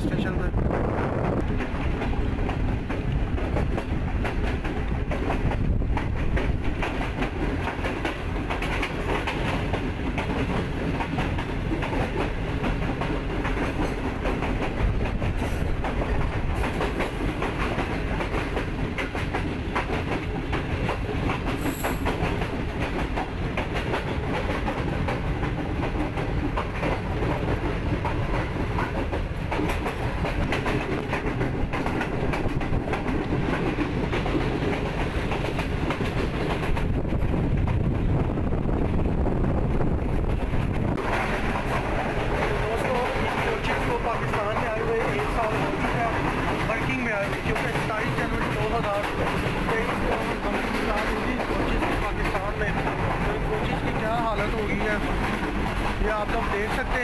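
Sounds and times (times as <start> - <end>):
clickety-clack of wheels over track: 0.0 - 57.0
train wheels rumbling on rails: 0.0 - 57.0.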